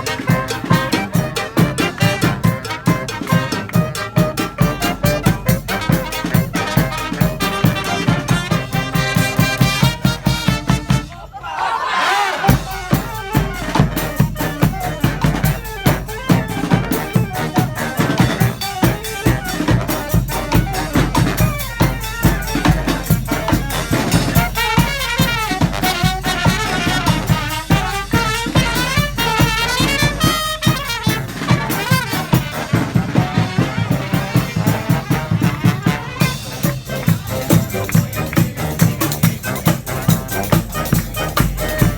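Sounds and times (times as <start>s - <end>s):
driving drum beat: 0.0s - 11.1s, 12.4s - 41.9s
brass band horns: 0.0s - 41.9s.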